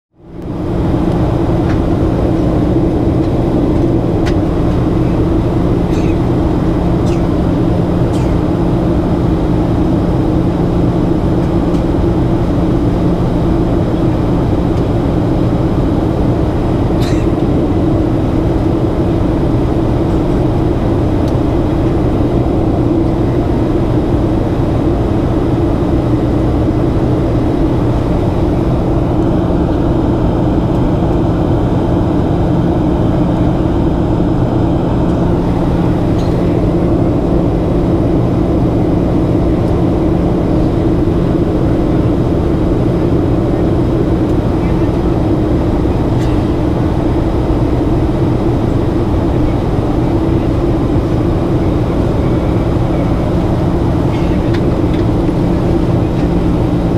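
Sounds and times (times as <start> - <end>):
airflow rush in cabin: 0.2 - 56.9
jet engines droning: 0.2 - 56.9.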